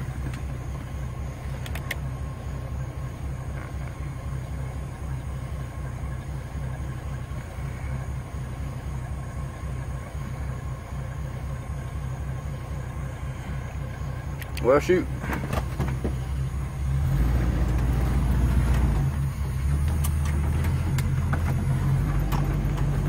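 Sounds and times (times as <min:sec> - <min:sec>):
pickup truck engine rumbling: 0:00.0 - 0:23.0.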